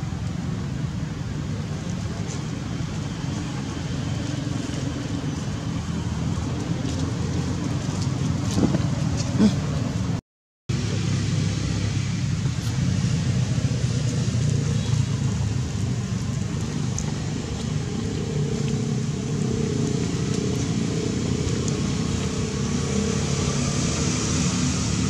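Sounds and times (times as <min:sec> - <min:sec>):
engine humming low: 0:00.0 - 0:25.0.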